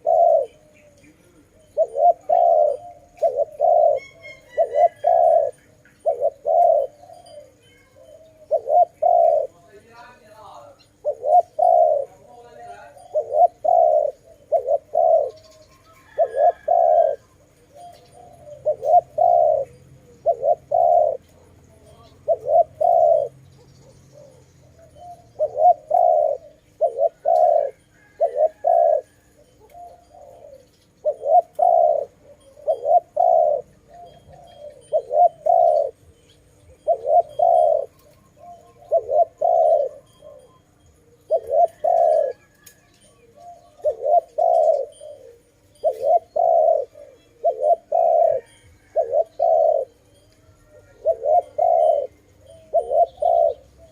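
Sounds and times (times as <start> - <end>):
dove cooing: 0.0 - 53.9
small bird chirping: 0.0 - 53.9.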